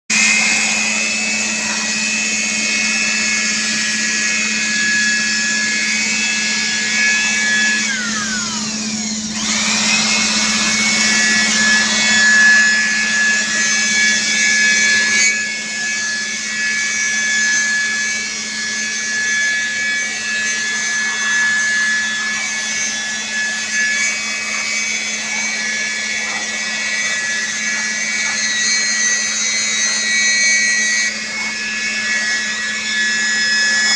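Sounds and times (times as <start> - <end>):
electric motor whining: 0.1 - 33.9.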